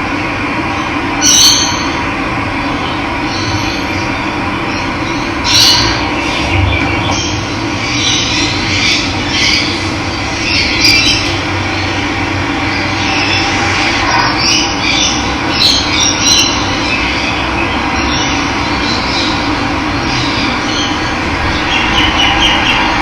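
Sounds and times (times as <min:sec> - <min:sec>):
birds chirping: 0:02.6 - 0:23.0.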